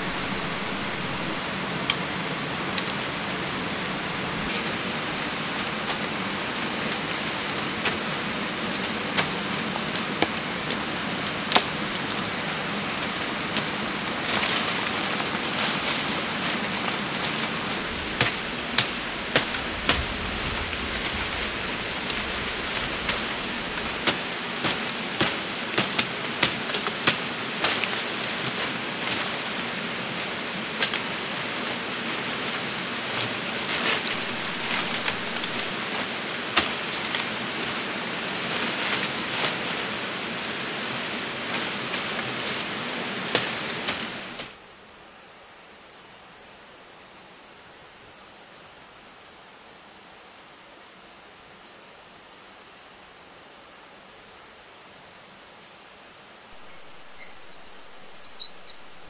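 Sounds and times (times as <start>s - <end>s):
rushing water: 0.0s - 44.6s, 54.2s - 59.0s.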